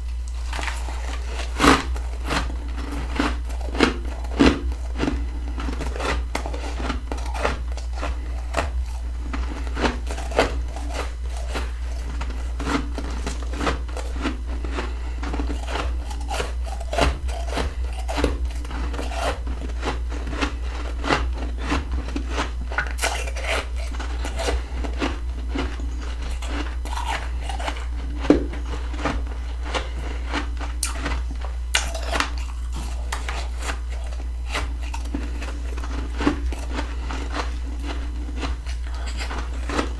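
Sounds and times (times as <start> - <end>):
crunching and chewing frost: 0.0 - 39.9
steady low hum: 0.0 - 39.9.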